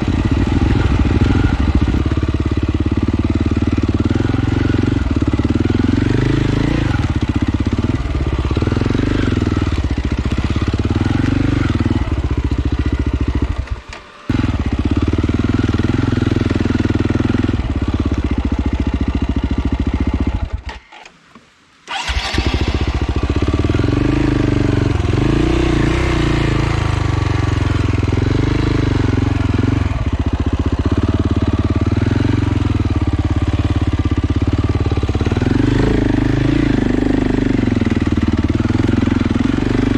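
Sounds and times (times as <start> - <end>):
off-road motorcycle engine revving: 0.0 - 21.1, 21.9 - 39.9.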